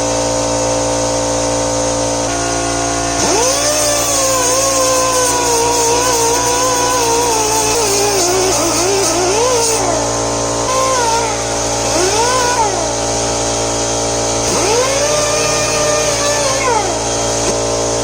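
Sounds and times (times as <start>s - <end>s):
power tool motor running: 0.0s - 18.0s.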